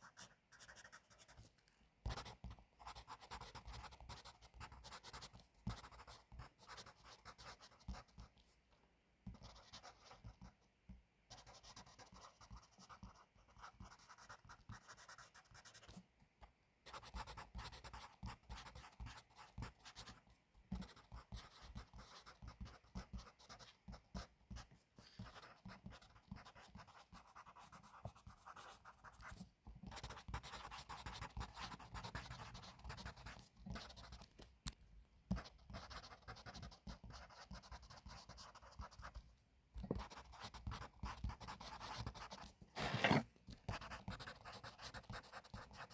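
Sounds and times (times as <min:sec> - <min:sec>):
pencil scratching on paper: 0:00.0 - 0:08.4, 0:09.3 - 0:10.6, 0:11.3 - 0:16.0, 0:16.9 - 0:34.3, 0:35.3 - 0:39.2, 0:39.8 - 0:45.9.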